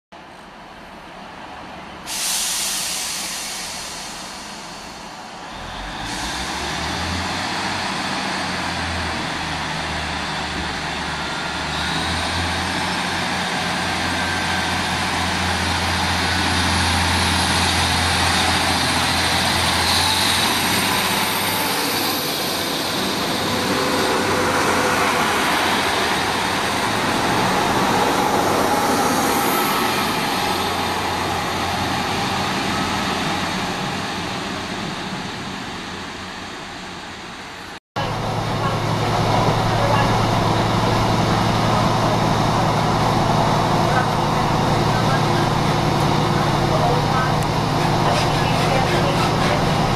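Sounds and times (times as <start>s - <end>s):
diesel engines humming: 0.3s - 49.9s
wheel and rail noise: 3.3s - 49.9s.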